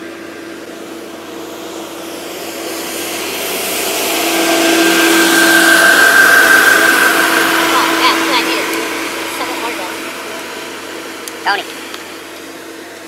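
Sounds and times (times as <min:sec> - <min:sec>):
motor vehicle approaching: 0:00.0 - 0:13.0
steady high whine: 0:00.0 - 0:13.0.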